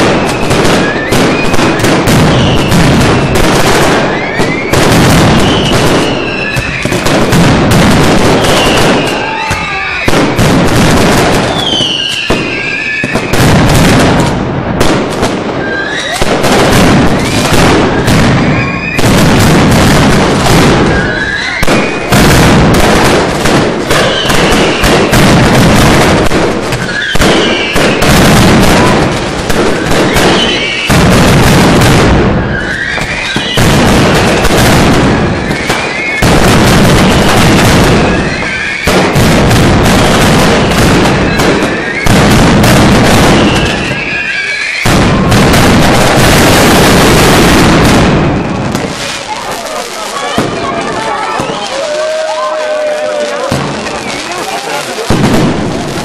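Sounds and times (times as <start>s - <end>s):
fireworks bangs and crackling: 0.0s - 56.0s
fireworks whistles: 0.0s - 56.0s.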